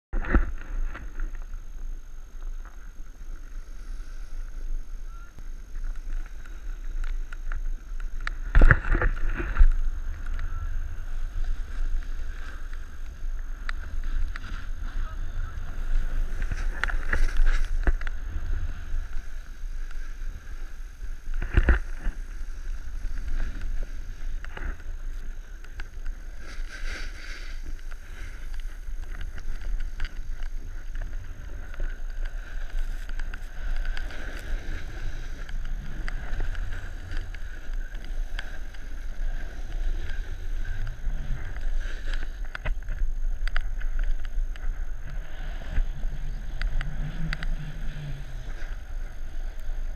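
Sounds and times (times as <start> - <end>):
snowboard scraping over snow: 0.2 - 49.9.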